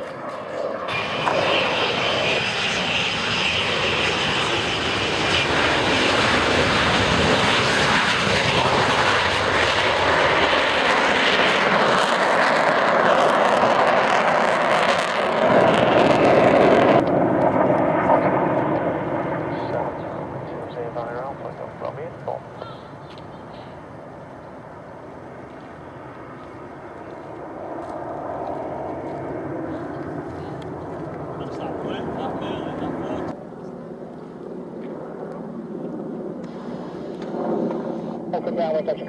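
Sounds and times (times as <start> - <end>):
jet aircraft taking off: 0.0 - 39.0.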